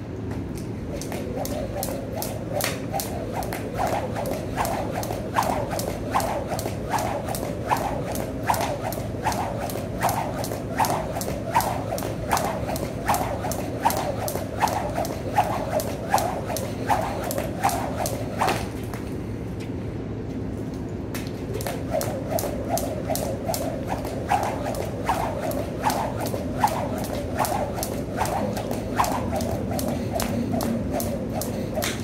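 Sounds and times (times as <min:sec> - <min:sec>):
jump rope slapping the floor: 0:00.3 - 0:19.1, 0:21.1 - 0:32.0.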